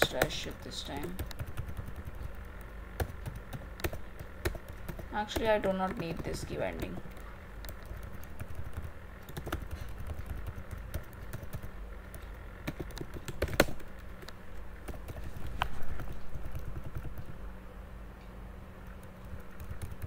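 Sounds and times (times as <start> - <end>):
typing on computer keyboard: 1.0 - 15.3, 15.9 - 17.4, 18.9 - 20.0.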